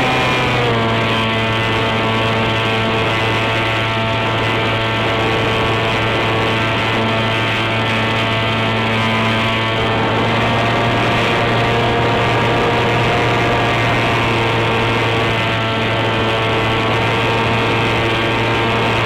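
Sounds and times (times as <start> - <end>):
electric motor propeller whine: 0.0 - 19.0.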